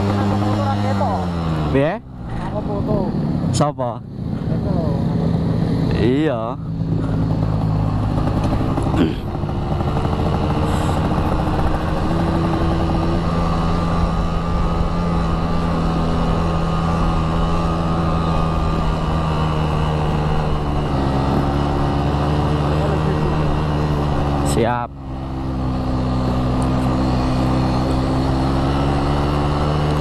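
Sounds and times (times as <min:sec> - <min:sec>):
two-stroke motorcycle engine running: 0:00.0 - 0:03.6, 0:04.3 - 0:30.0.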